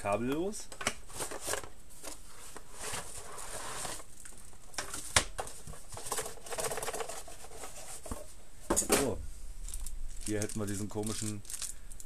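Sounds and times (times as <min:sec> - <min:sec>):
cardboard and plastic rustling: 0:00.1 - 0:12.0.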